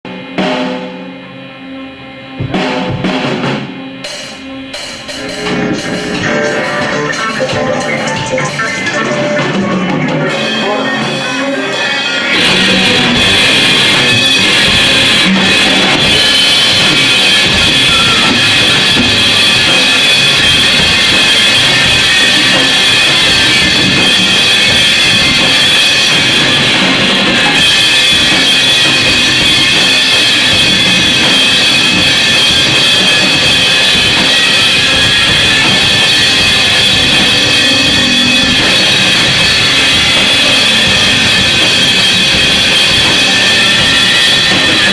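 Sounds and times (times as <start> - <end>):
loud noise music with drumming: 0.0 - 44.9.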